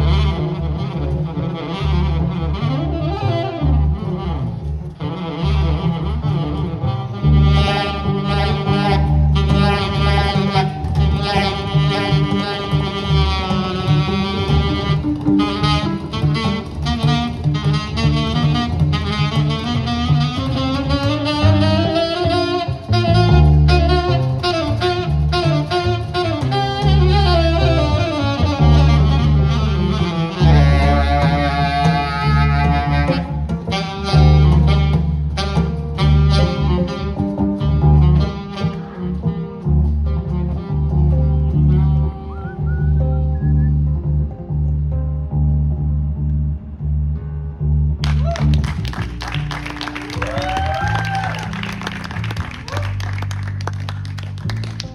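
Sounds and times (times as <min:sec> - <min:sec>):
saxophone solo: 0:00.0 - 0:43.9, 0:48.0 - 0:54.9
plucked double bass: 0:00.0 - 0:54.9.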